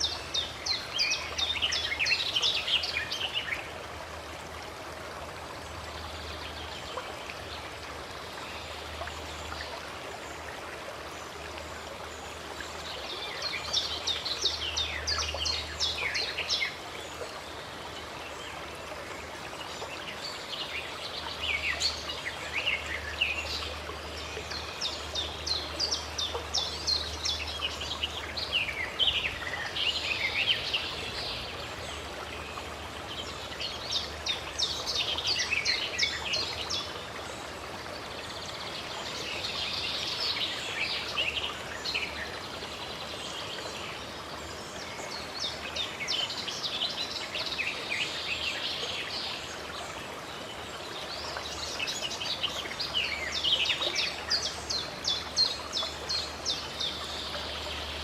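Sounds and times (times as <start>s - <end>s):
songbirds chirping: 0.0s - 58.0s
stream water running: 0.0s - 58.0s.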